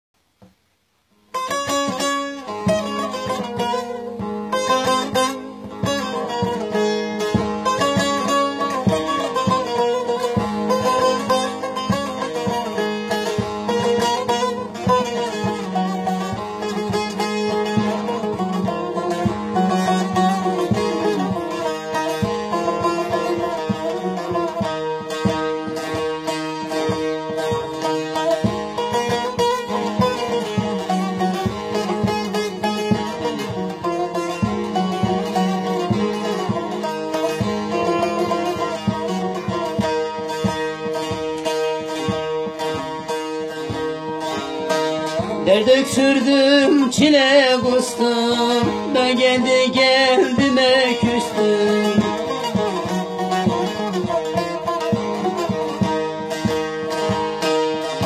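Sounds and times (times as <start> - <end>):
plucked string instrument music: 0.3 - 58.0.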